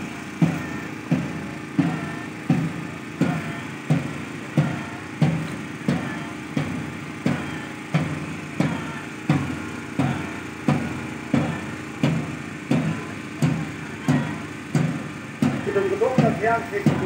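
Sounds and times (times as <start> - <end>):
drum beaten at marching pace: 0.0 - 17.0.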